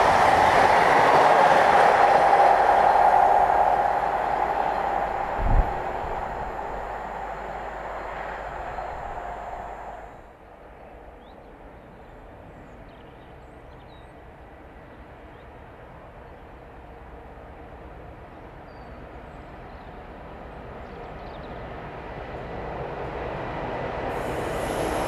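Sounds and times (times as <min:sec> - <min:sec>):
freight train rumbling on rails: 0:00.0 - 0:25.0.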